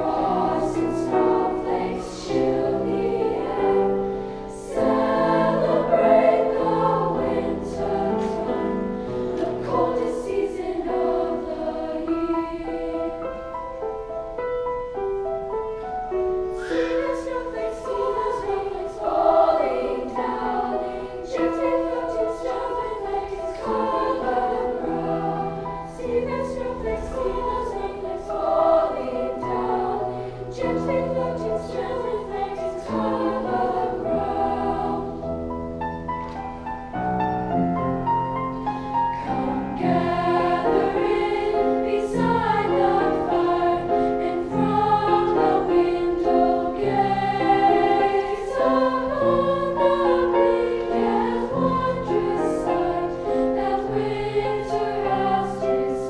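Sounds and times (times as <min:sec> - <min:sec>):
choir singing: 0:00.0 - 0:14.1, 0:14.9 - 0:36.0, 0:37.8 - 0:56.0.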